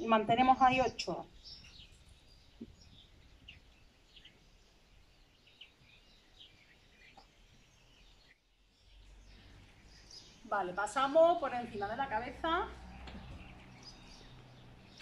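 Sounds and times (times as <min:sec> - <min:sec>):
distant small birds chirping: 0:00.0 - 0:15.0
faint outdoor ambience: 0:00.0 - 0:15.0.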